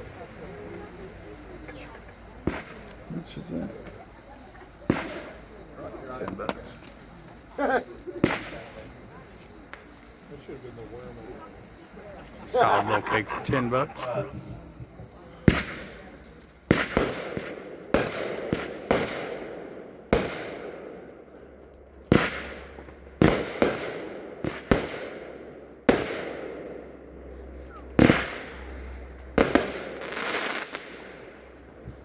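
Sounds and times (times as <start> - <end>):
fireworks bangs with echo: 0.0 - 6.8, 7.6 - 11.4, 13.9 - 32.0.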